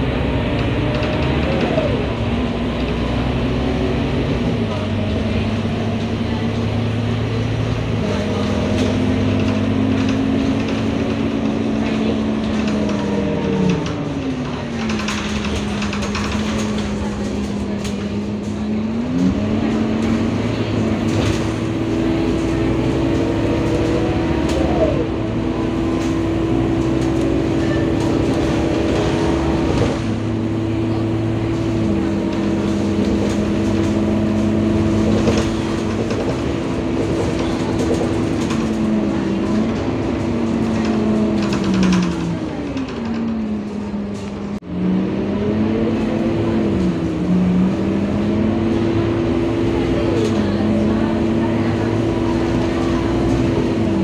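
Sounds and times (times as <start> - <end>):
bus engine drone and whine: 0.0 - 54.0.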